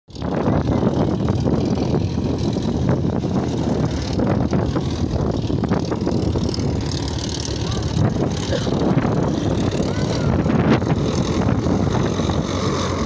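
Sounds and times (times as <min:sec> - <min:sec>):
propeller plane engine running: 0:00.1 - 0:13.0.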